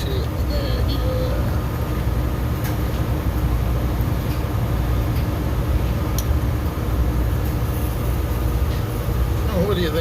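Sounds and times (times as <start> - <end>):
refrigeration unit humming: 0.0 - 10.0.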